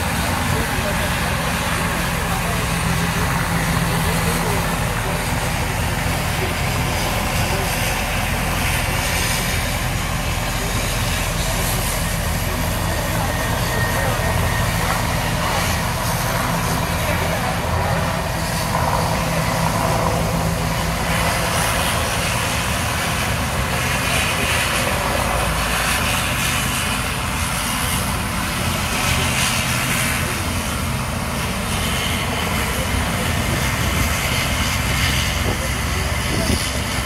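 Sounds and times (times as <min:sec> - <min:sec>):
turboprop engines running: 0:00.0 - 0:37.0.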